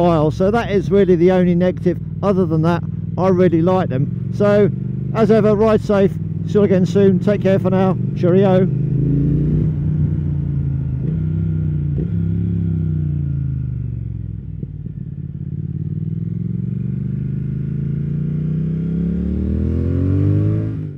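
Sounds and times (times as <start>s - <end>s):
motorcycle engine: 0.0s - 20.9s.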